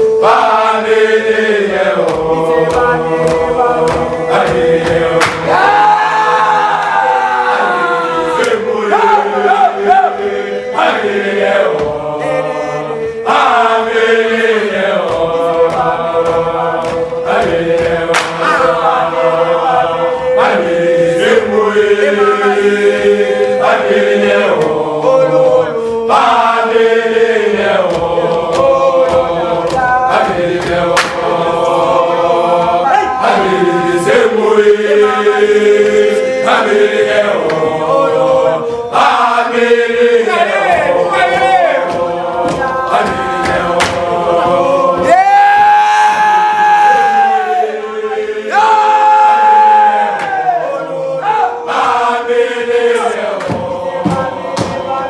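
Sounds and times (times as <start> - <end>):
voices singing a chant: 0.0 - 55.0.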